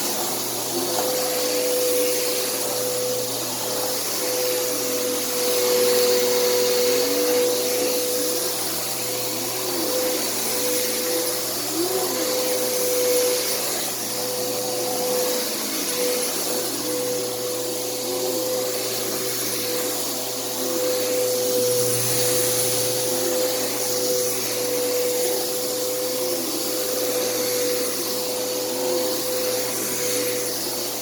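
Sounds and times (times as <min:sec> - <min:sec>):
upright vacuum running: 0:00.0 - 0:31.0.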